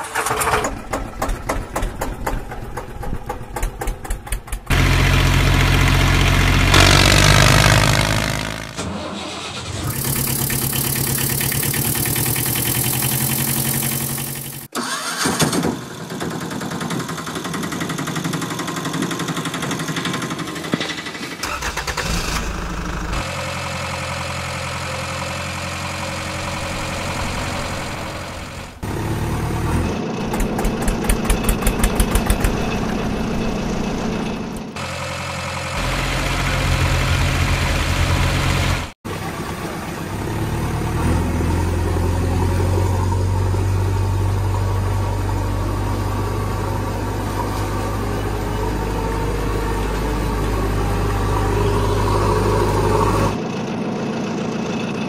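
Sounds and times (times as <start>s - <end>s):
diesel engine chugging: 0.0s - 14.7s, 16.0s - 55.0s
engines starting and running: 0.0s - 55.0s.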